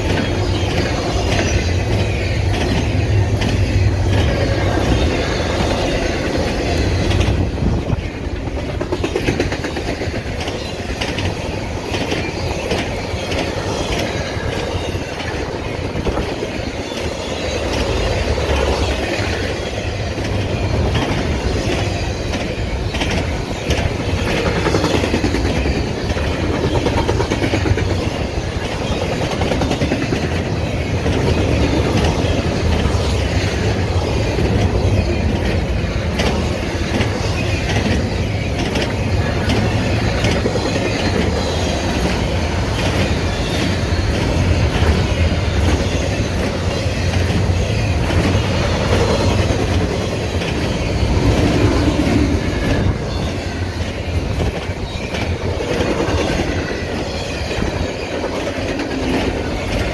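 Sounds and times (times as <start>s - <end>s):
freight train rumble: 0.0s - 59.9s
wheels clicking on rails: 0.0s - 59.9s.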